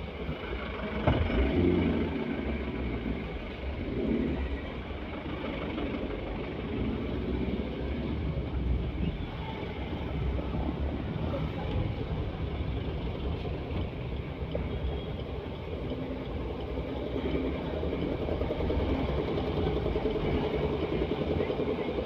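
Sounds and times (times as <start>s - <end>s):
road noise: 0.0s - 22.0s
vehicle rumble: 0.0s - 22.0s.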